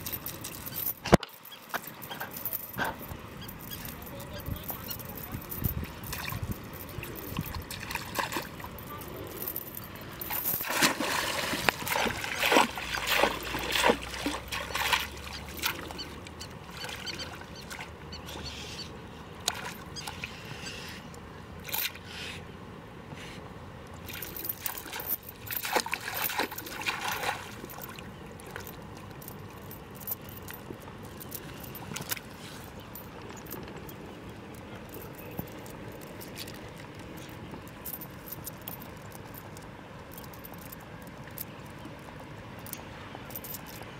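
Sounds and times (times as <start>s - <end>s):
shallow river water splashing: 0.0s - 22.1s, 23.8s - 43.9s.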